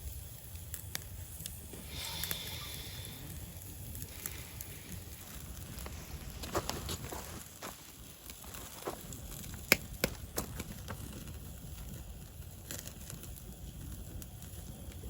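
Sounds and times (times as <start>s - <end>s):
campfire crackling pops: 0.0s - 15.0s.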